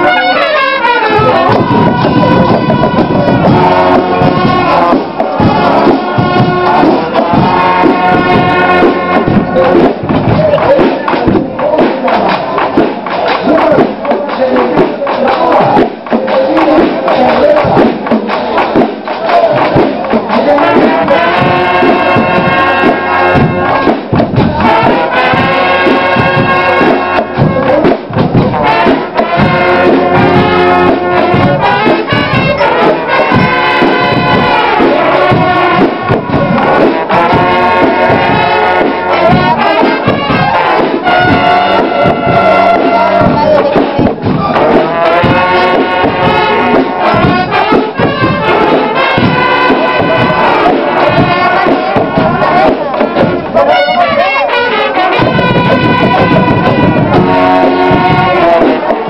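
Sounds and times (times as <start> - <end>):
brass horns playing: 0.0 - 59.0
cymbals: 0.0 - 59.0
drums: 0.0 - 59.0.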